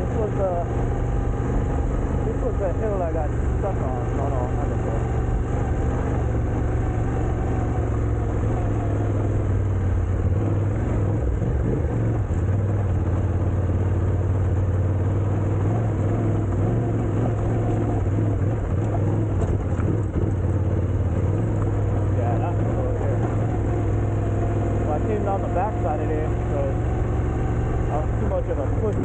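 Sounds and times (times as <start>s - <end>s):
road and wind noise: 0.0s - 29.0s
vehicle engine humming: 0.0s - 29.0s.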